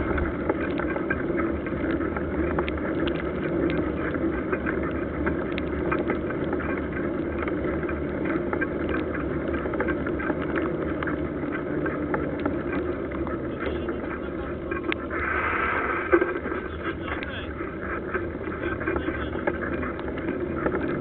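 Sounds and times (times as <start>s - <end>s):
bike tyre and wind rumble: 0.0s - 21.0s
small clicks and rattles: 0.0s - 21.0s.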